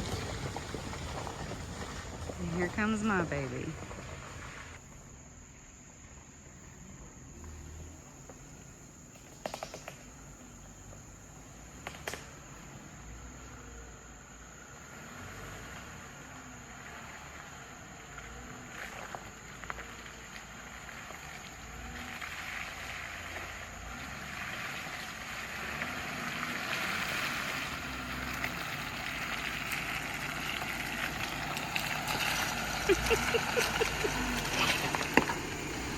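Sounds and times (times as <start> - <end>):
engine running low: 0.0 - 35.9.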